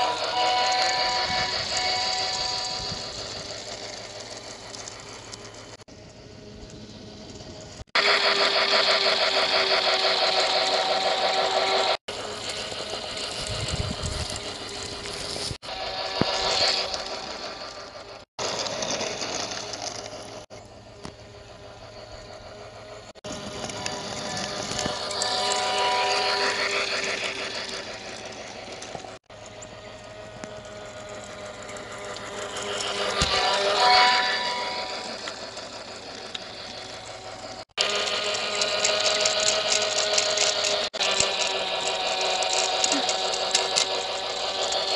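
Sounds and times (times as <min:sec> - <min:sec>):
model train motor whirring: 0:00.0 - 0:44.9.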